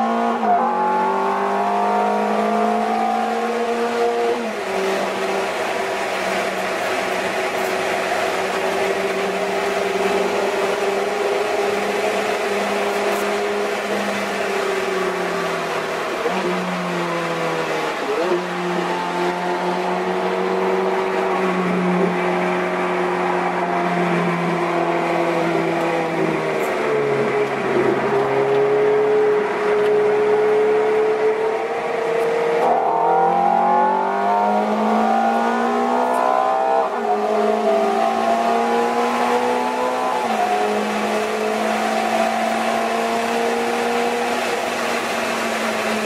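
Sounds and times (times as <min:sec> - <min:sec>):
car engine running under load: 0:00.0 - 0:46.0.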